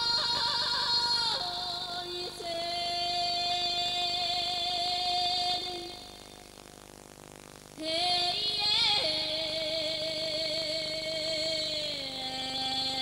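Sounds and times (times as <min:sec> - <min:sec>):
woman singing wordlessly: 0:00.0 - 0:06.1, 0:07.8 - 0:13.0.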